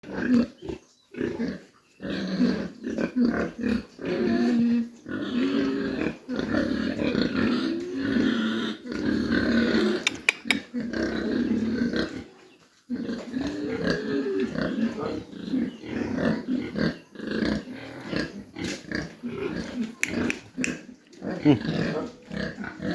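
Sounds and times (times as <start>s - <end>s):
pigs grunting and calling: 0.0s - 22.9s.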